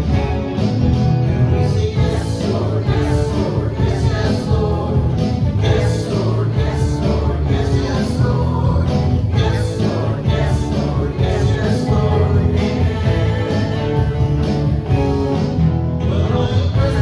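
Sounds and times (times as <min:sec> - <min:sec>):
steady drum beat: 0:00.0 - 0:15.8, 0:16.8 - 0:17.0
guitar: 0:00.0 - 0:17.0
worship band playing upbeat song: 0:00.0 - 0:17.0.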